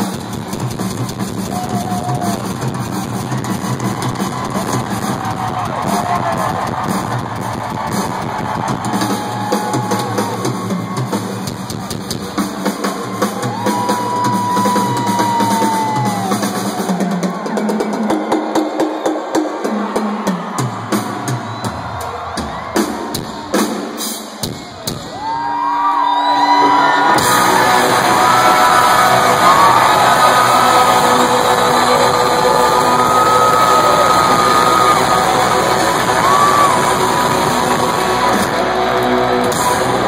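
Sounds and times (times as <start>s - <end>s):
drum hits and fills: 0.0s - 25.4s, 26.6s - 40.0s
crowd cheering and whistling: 0.0s - 40.0s
live rock band: 0.0s - 40.0s.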